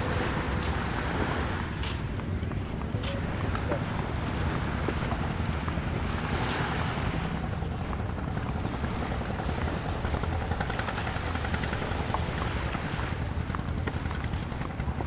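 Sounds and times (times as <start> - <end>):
waves washing onto beach: 0.0 - 15.0
wind on microphone: 0.0 - 15.0.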